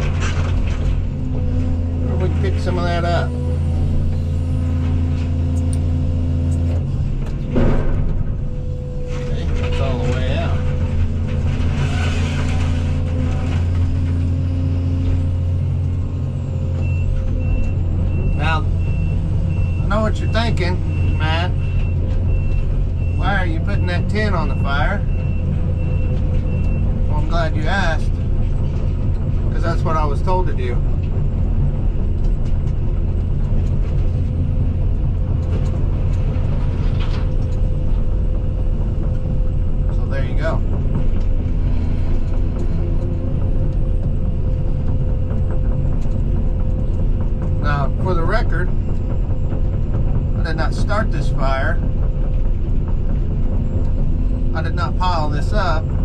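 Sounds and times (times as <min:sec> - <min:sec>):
diesel engine humming under load: 0:00.0 - 0:56.0.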